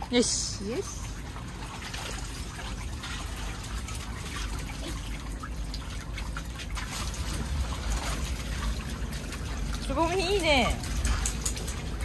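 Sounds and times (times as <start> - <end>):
dogs splashing in water: 0.0 - 12.0.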